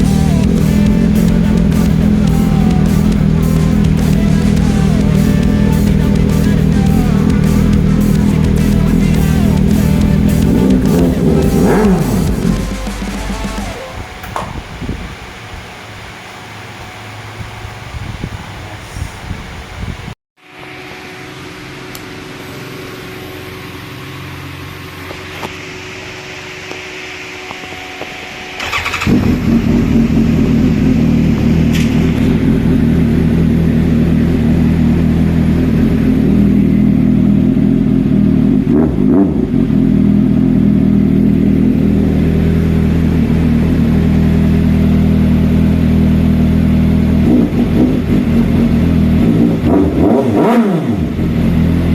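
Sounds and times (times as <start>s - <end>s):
motorcycle engine starting and running: 0.0s - 18.2s, 20.8s - 51.9s.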